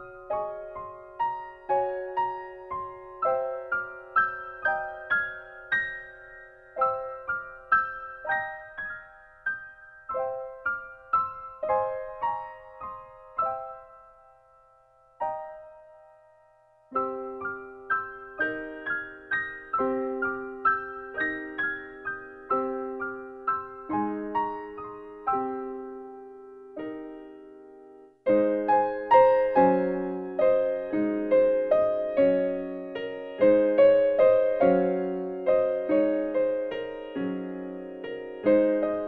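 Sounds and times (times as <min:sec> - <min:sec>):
slow solo piano music: 0:00.0 - 0:39.0.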